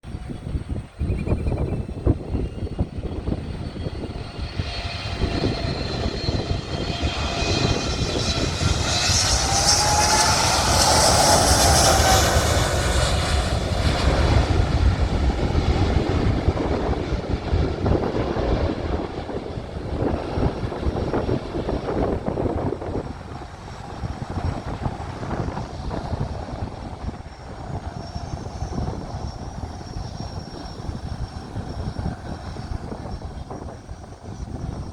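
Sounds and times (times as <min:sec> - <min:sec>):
gusty wind rumble: 0:00.0 - 0:34.9
jet engines roaring: 0:00.1 - 0:34.9.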